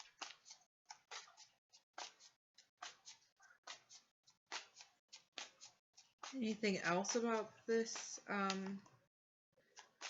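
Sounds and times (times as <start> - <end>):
faint clicks and taps: 0.0 - 9.0.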